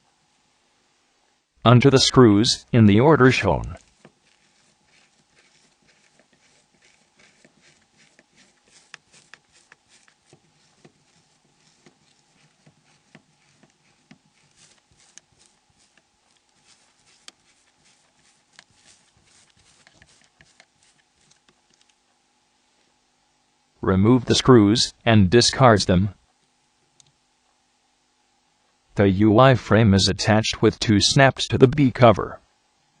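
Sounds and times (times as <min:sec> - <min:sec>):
low steady hiss: 0:00.0 - 0:33.0.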